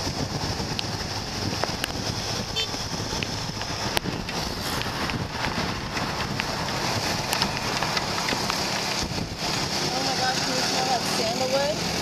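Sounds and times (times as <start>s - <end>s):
tyres hissing on wet road: 0.0s - 12.0s
wind rushing over microphone: 0.0s - 12.0s.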